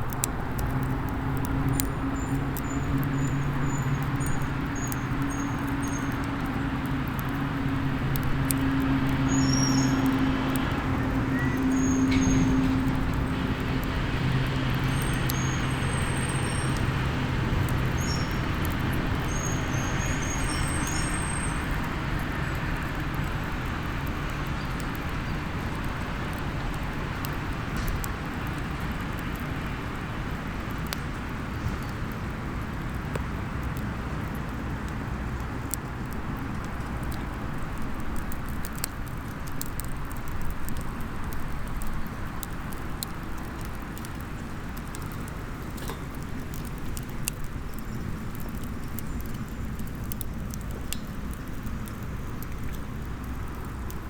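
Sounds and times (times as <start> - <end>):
campfire crackling: 0.0 - 54.0
fire popping: 0.0 - 54.0.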